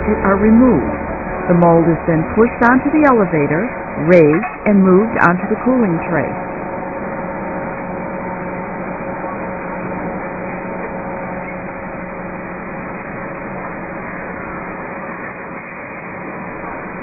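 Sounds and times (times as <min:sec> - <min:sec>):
machinery humming with steady tones: 0:00.0 - 0:17.0.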